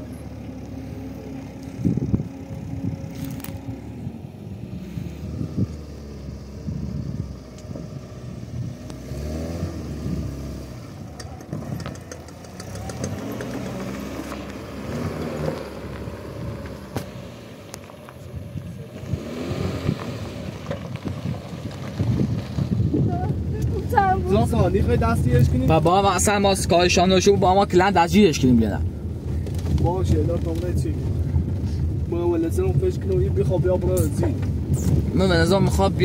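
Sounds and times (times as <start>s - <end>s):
car engine driving: 0.0s - 36.0s.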